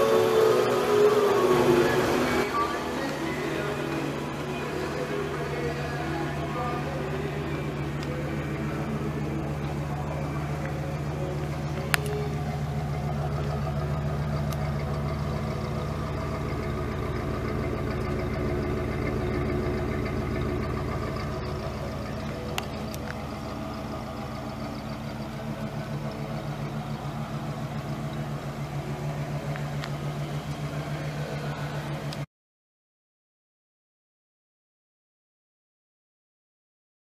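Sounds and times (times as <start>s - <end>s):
car engine idling: 0.0s - 32.3s.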